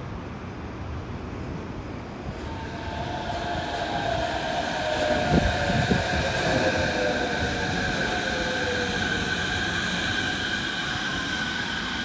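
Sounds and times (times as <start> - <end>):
monorail train approaching: 0.0 - 12.0
steady whine: 2.2 - 12.0.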